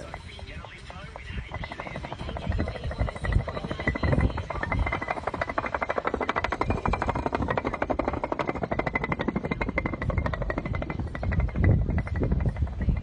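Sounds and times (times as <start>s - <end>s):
concrete pavers clacking: 0.0s - 13.0s.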